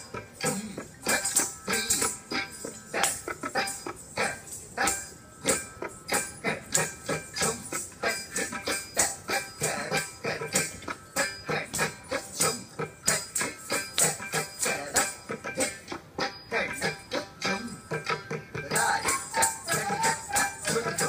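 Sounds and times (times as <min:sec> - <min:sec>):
accompanying music: 0:00.0 - 0:21.0
ankle bells jingling: 0:00.0 - 0:21.0.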